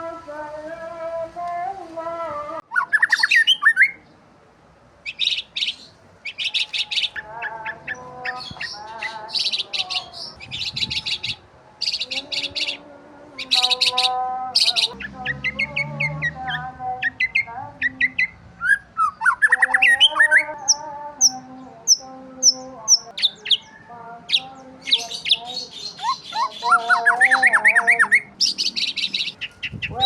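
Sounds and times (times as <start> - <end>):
birds chirping: 2.6 - 30.0
whistled bird calls: 2.7 - 4.0, 5.1 - 12.8, 13.4 - 23.9, 24.9 - 30.0.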